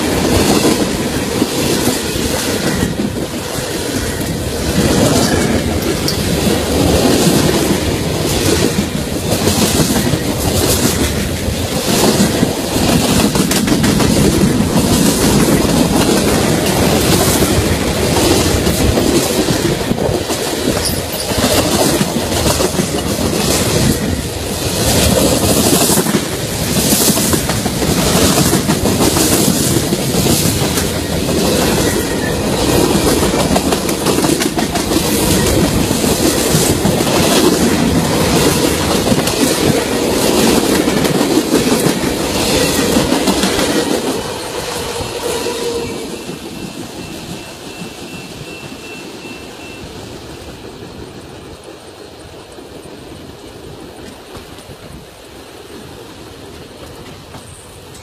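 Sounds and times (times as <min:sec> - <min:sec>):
train rumble: 0:00.0 - 0:58.0
train wheels clacking on rails: 0:00.0 - 0:58.0.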